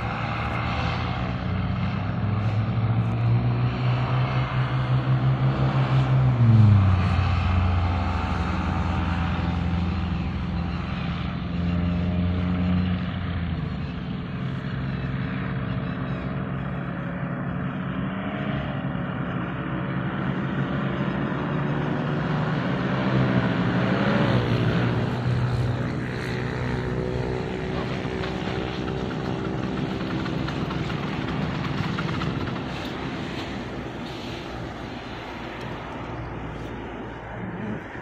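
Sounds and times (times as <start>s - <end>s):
paramotor engine and propeller: 0.0s - 38.0s.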